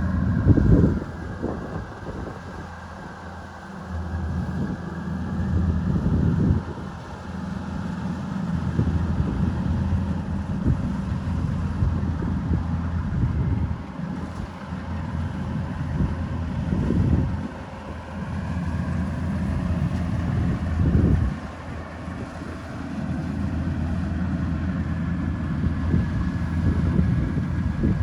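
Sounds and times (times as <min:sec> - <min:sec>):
combine harvester droning: 0:00.0 - 0:28.0.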